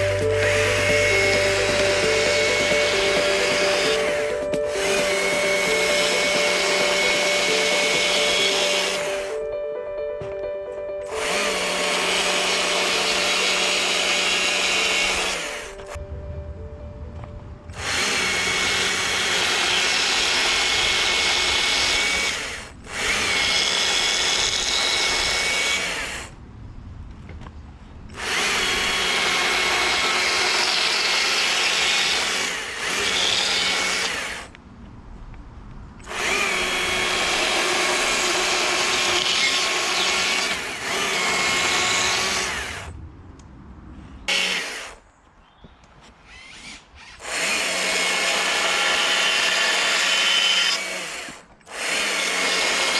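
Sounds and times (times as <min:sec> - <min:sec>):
chainsaw cutting log: 0:00.0 - 0:09.4, 0:11.0 - 0:16.0, 0:17.7 - 0:26.4, 0:28.1 - 0:34.5, 0:36.0 - 0:42.9, 0:44.3 - 0:45.0, 0:46.3 - 0:52.9.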